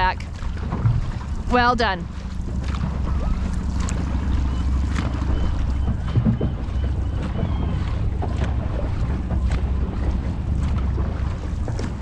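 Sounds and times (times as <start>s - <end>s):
paddle splashes: 0.0s - 12.0s
water noise: 0.0s - 12.0s
wind rumbling on microphone: 0.0s - 12.0s.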